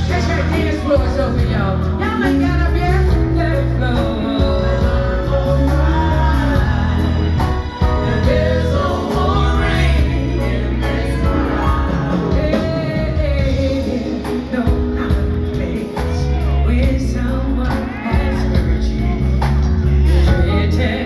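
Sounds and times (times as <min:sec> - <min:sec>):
live band playing slow song: 0:00.0 - 0:21.0
person singing: 0:00.0 - 0:21.0.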